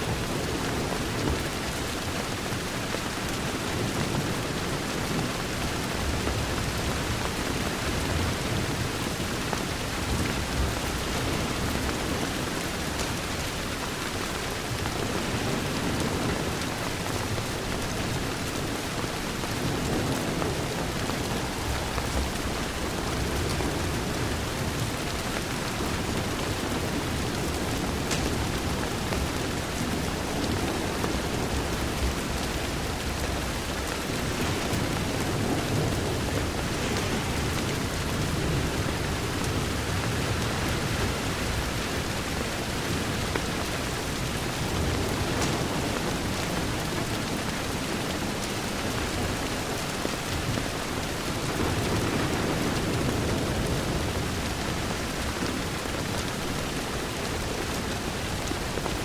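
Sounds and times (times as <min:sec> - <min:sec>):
rain falling on a window: 0:00.0 - 0:59.0.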